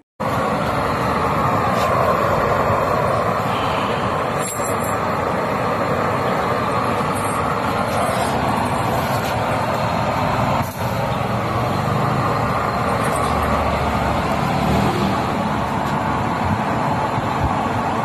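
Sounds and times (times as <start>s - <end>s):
oil burner rushing: 0.2s - 18.0s.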